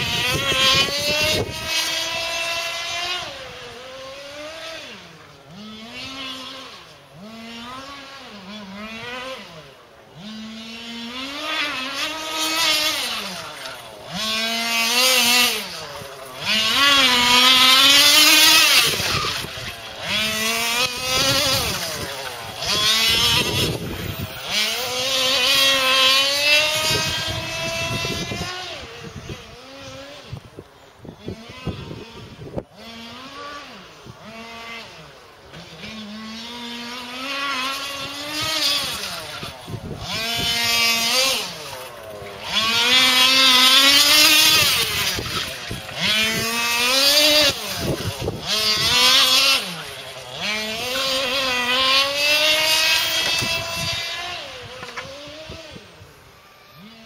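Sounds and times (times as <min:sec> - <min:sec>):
rc car engine racing: 0:00.0 - 0:57.0.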